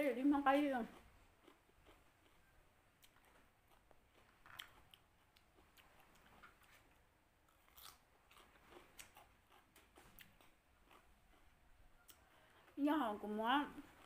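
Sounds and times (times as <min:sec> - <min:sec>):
crunching and chewing cucumber: 0:00.8 - 0:12.3.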